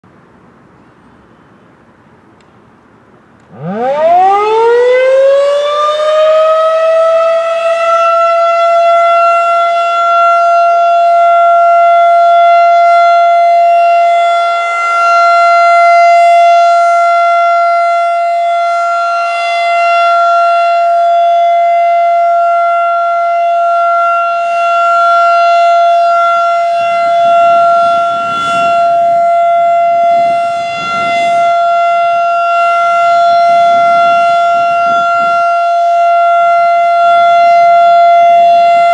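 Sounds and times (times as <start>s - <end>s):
outdoor warning siren: 3.0s - 38.9s.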